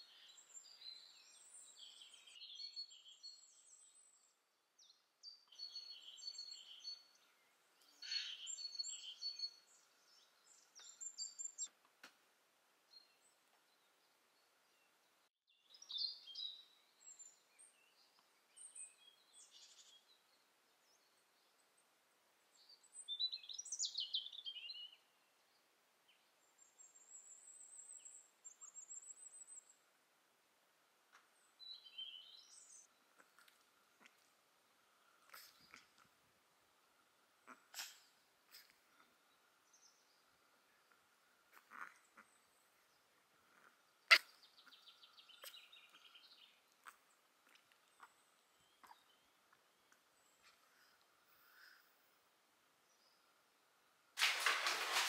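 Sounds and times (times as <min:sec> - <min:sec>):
small birds chirping: 0:00.0 - 0:11.8, 0:12.9 - 0:30.0, 0:31.0 - 0:53.8.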